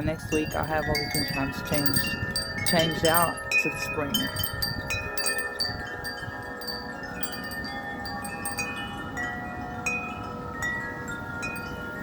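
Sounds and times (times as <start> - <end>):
low rumble of wind: 0.0 - 12.0
wind chimes ringing: 0.0 - 12.0.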